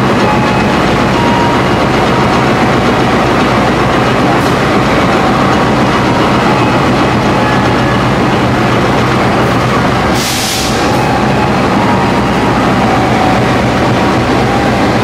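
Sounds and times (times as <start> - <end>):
locomotive engine droning: 0.0 - 15.0.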